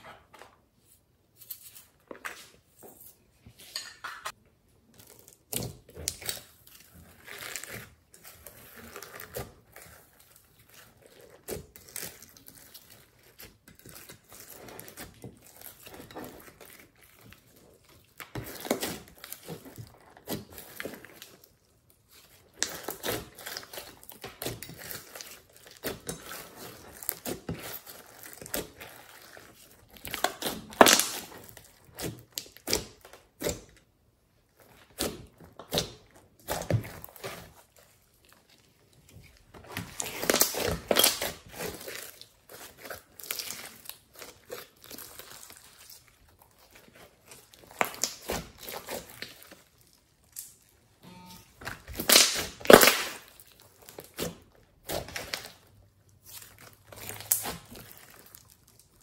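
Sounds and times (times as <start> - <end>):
hands squishing sticky slime: 5.0 - 59.0.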